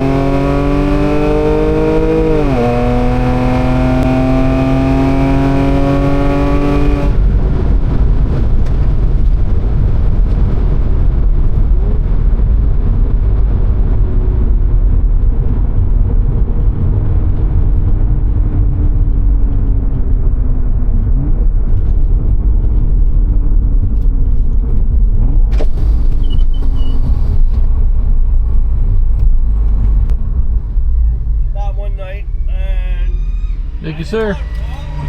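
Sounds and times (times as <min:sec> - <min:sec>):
car engine accelerating: 0:00.0 - 0:35.0
low rumble of road and wind: 0:00.0 - 0:35.0.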